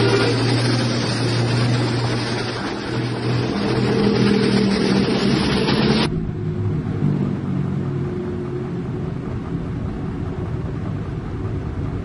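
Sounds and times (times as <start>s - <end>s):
diesel truck engine: 0.0s - 12.0s
road traffic noise: 0.0s - 12.0s.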